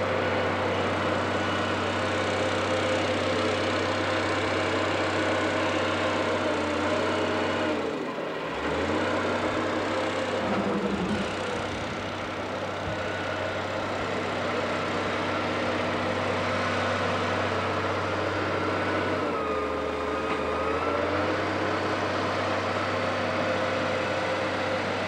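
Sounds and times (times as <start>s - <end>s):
engine idling: 0.0s - 20.2s.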